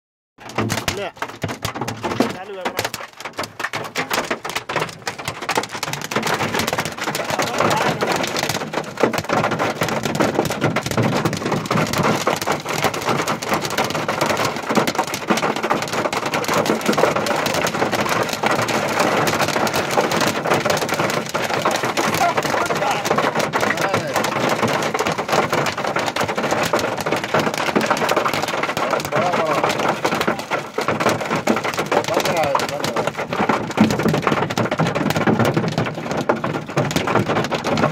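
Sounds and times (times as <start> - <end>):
heavy rain and hail pelting: 0.4 - 37.9.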